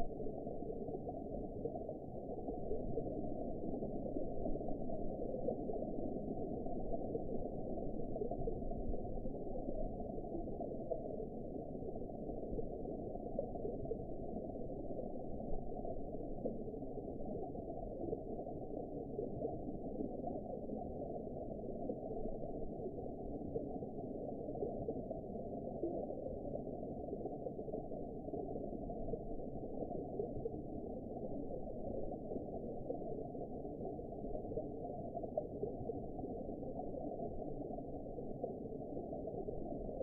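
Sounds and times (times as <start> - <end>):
muffled underwater rush: 0.0 - 40.0.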